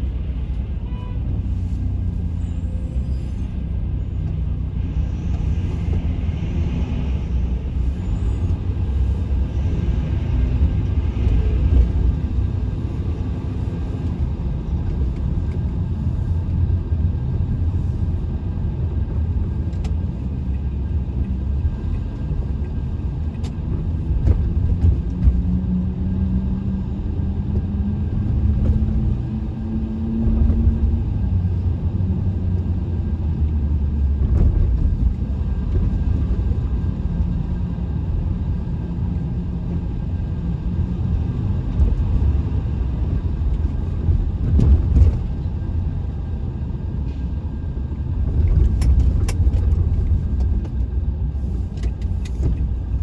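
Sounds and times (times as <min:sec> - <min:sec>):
vehicle driving rumble: 0:00.0 - 0:53.0.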